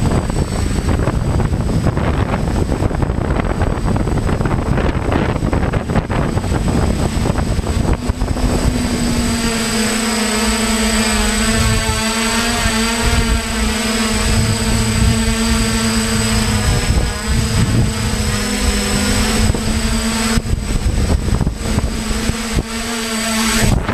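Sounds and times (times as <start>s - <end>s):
drone motors buzzing: 0.0s - 23.9s
wind rushing over microphone: 0.0s - 23.9s.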